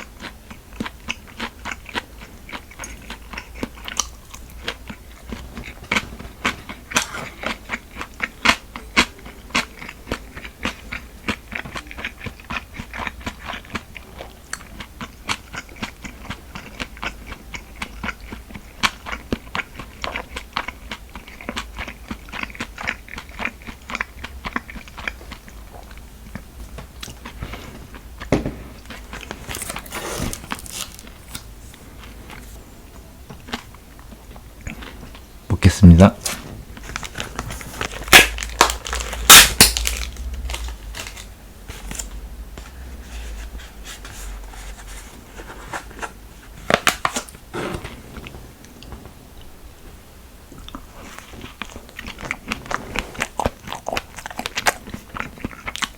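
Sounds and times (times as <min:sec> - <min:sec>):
chewing and crisp crunches: 0:00.0 - 0:47.5, 0:50.6 - 0:55.9.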